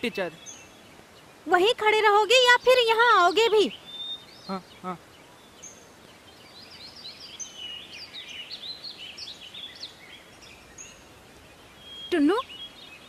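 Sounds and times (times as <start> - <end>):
faint outdoor hiss: 0.0 - 13.0
small birds chirping: 0.0 - 13.0.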